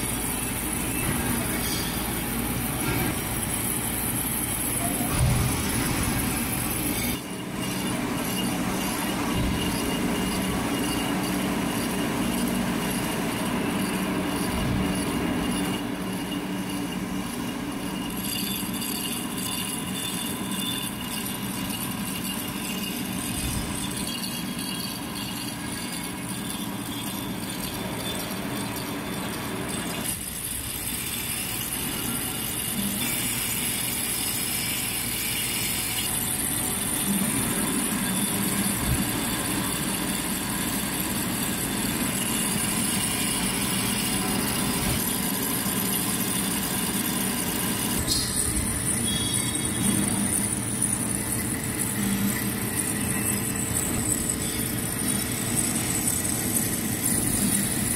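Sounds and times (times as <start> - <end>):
metal lathe running: 0.0 - 57.9.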